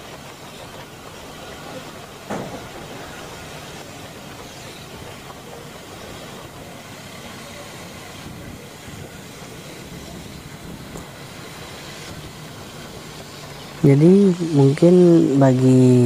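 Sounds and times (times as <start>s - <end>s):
small motorcycles running: 0.0s - 16.0s
wind and road noise: 0.0s - 16.0s.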